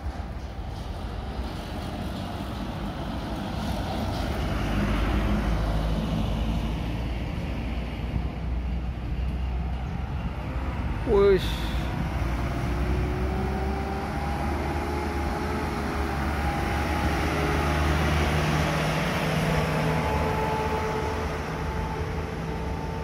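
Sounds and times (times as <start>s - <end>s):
loaded truck engine: 0.0s - 23.0s
truck engines running: 0.0s - 23.0s.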